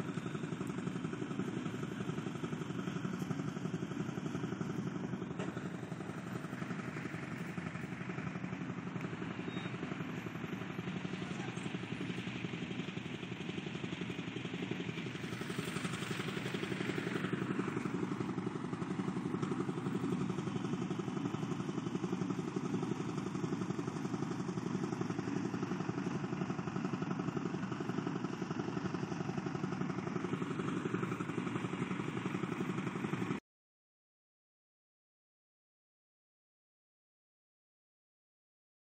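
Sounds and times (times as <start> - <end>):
tractor diesel engine running: 0.0 - 33.4.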